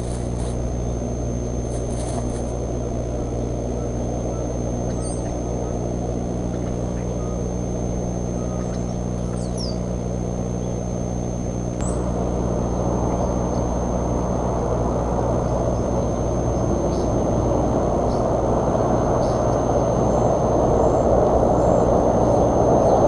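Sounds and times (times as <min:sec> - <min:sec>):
small birds chirping: 0:00.0 - 0:14.0, 0:15.3 - 0:17.2, 0:18.0 - 0:18.5, 0:19.1 - 0:23.0
mechanical hum with rushing: 0:00.0 - 0:23.0.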